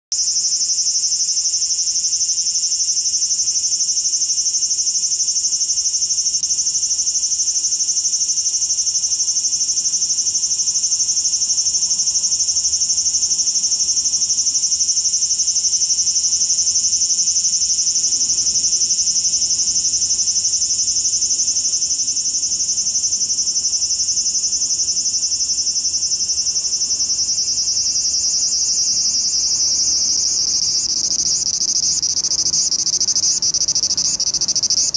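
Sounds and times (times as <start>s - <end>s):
cicada buzzing: 0.2s - 34.9s.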